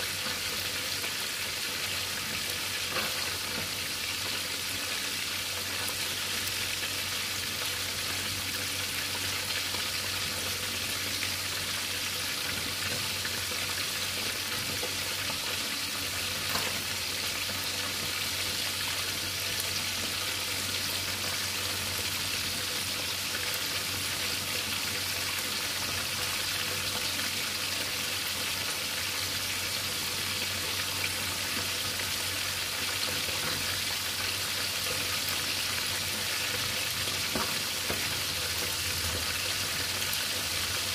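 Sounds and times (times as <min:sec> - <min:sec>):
fish frying in hot oil: 0:00.0 - 0:40.9.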